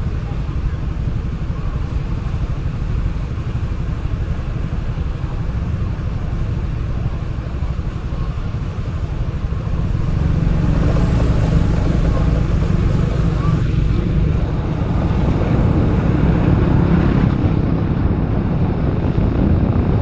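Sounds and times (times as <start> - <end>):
motor traffic rumble: 0.0 - 20.0.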